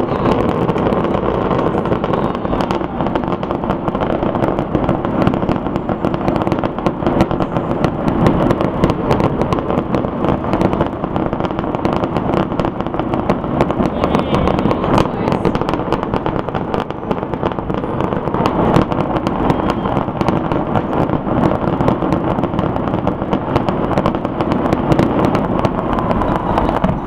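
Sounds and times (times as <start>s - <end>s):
fireworks booming and crackling: 0.0s - 27.0s.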